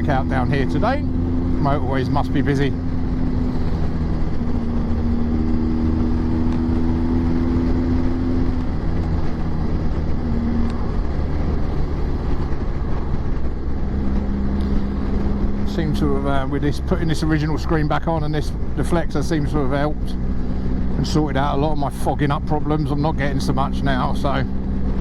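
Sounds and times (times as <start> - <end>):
motorcycle engine cruising: 0.0 - 25.0
wind rush on microphone: 0.0 - 25.0.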